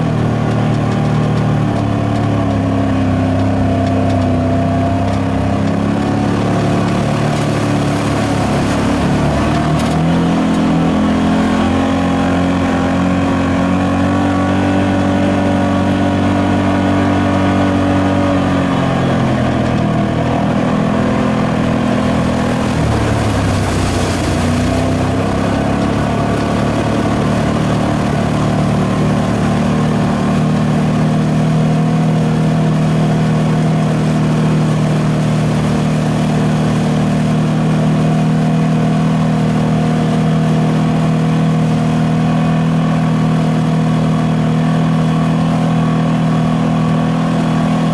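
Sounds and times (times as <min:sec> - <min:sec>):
utv engine under load: 0:00.0 - 0:47.9
water splashing under tyres: 0:00.0 - 0:47.9.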